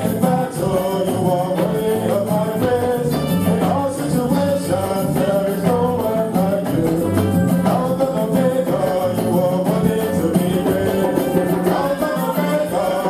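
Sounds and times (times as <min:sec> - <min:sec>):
music with singing and beat: 0:00.0 - 0:13.0
tambourine rattling: 0:00.0 - 0:13.0.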